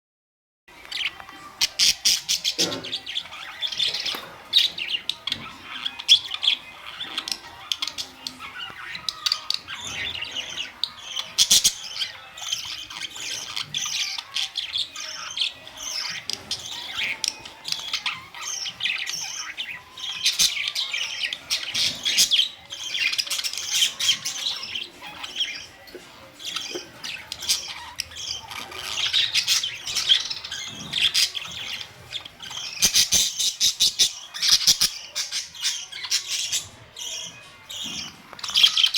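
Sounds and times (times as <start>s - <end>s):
budgerigars chattering: 0.9s - 38.9s.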